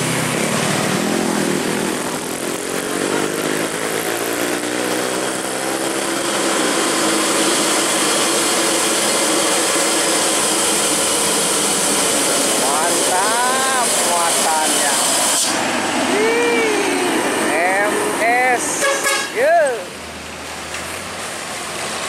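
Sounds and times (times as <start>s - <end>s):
diesel truck engine laboring: 0.0s - 22.0s
motorcycles passing: 0.0s - 22.0s.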